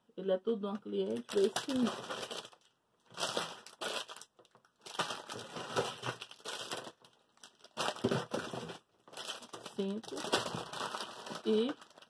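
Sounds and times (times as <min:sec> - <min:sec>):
packaging crinkling and rustling: 0:01.0 - 0:12.0.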